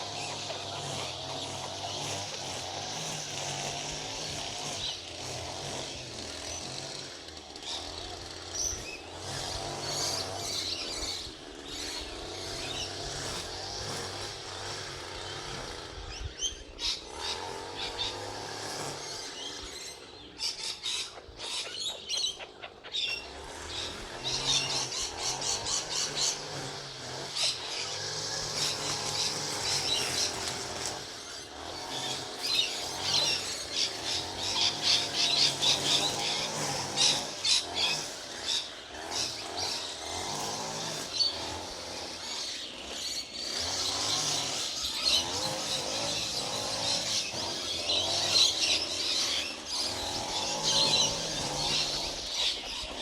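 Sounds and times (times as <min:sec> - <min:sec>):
birds chirping and squawking: 0:00.0 - 0:53.0.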